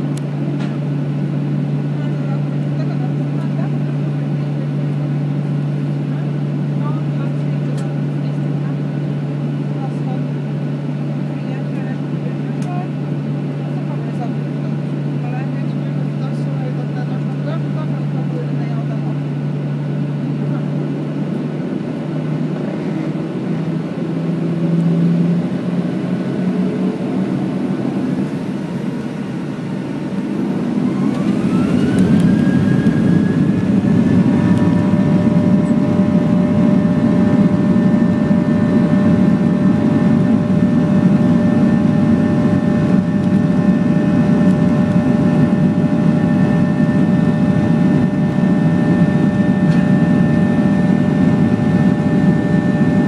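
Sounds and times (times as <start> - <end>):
jet engine whine: 0.0 - 53.0
loud engine rumble: 0.0 - 53.0.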